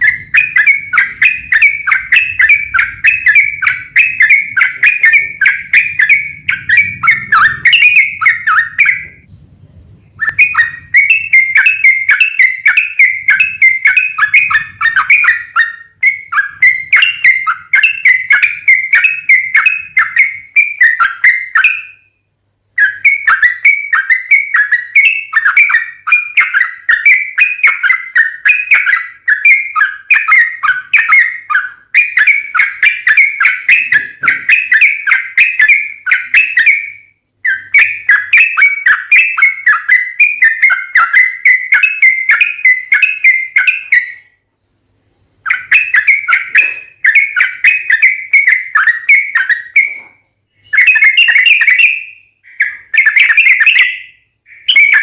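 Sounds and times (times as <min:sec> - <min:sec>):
bird singing rapid chirping runs: 0:00.0 - 0:09.3, 0:10.1 - 0:22.0, 0:22.8 - 0:44.2, 0:45.4 - 0:50.0, 0:50.6 - 0:55.0.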